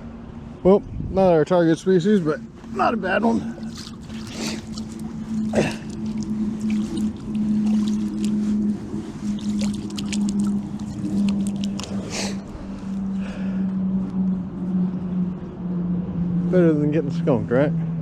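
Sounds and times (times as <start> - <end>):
motor hum: 1.7 - 16.9.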